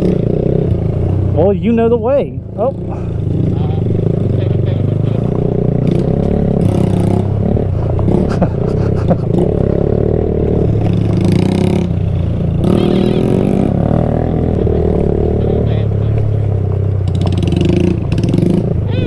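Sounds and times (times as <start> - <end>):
motorbike engine revving: 0.0 - 19.0.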